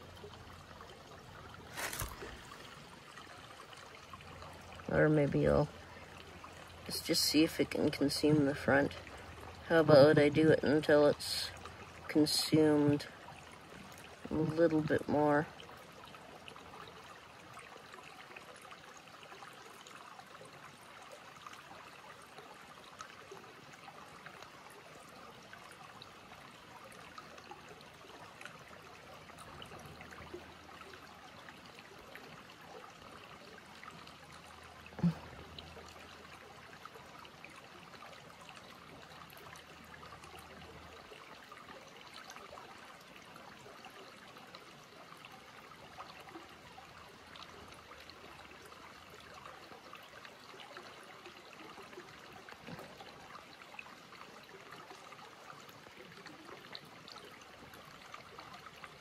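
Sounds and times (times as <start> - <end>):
creek water trickling over rocks: 0.0 - 59.0.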